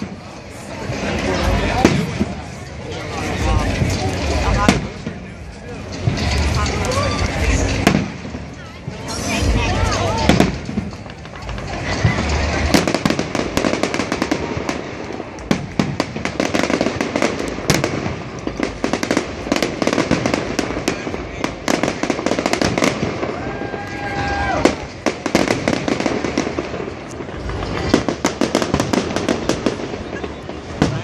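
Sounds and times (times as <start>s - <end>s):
fireworks crackling and banging: 0.0s - 31.0s.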